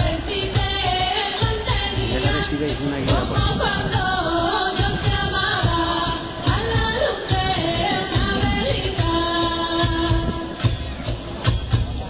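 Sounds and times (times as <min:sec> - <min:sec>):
steady rhythmic beat: 0:00.3 - 0:12.0.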